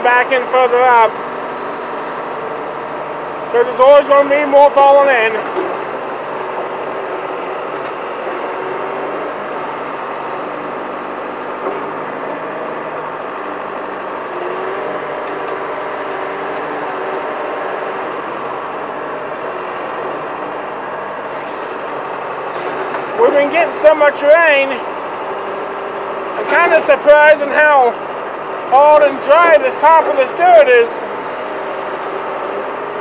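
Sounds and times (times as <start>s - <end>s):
backhoe diesel engine running: 0.0s - 33.0s
hydraulics working: 0.0s - 33.0s.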